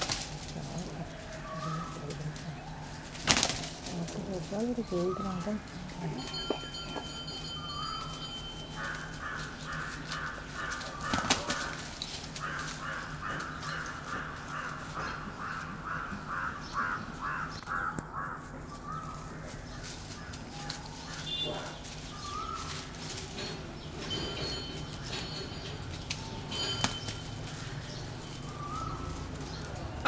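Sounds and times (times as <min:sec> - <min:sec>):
bird calling harsh notes: 0:00.0 - 0:06.5, 0:07.3 - 0:30.0.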